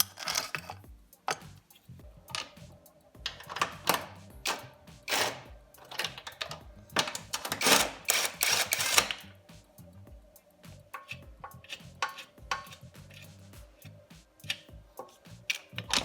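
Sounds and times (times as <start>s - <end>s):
tool clicks and scraping: 0.0s - 2.7s, 3.3s - 9.3s, 10.9s - 13.5s, 14.4s - 16.0s
background music: 0.0s - 16.0s.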